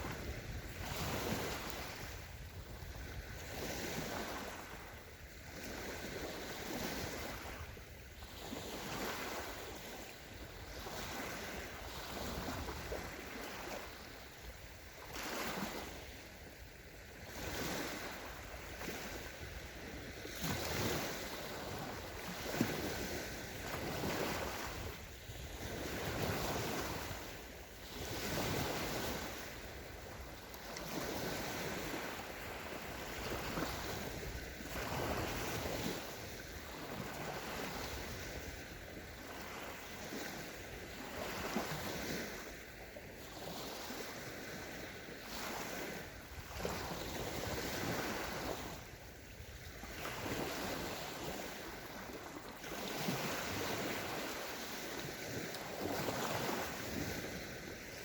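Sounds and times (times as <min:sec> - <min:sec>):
waves washing onto beach: 0:00.0 - 0:58.0.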